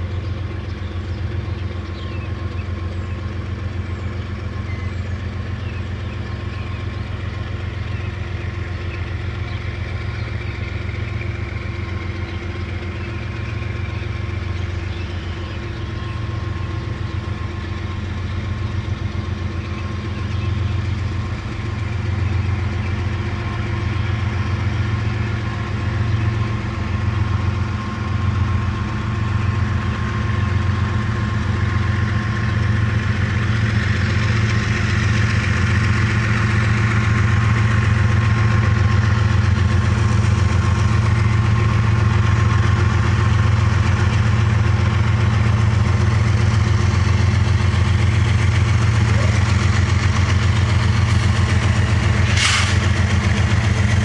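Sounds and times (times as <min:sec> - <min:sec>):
locomotive engine drone: 0:00.0 - 0:54.0.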